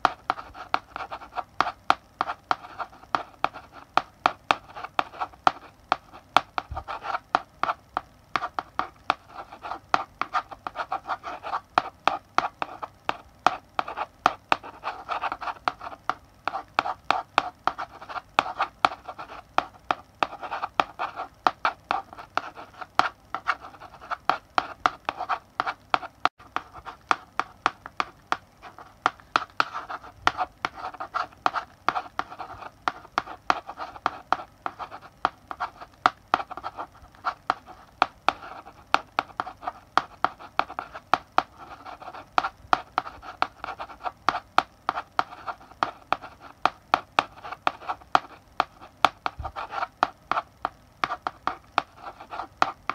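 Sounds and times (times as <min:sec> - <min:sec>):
chalk writing on a blackboard: 0:00.0 - 0:07.8, 0:08.4 - 0:52.9.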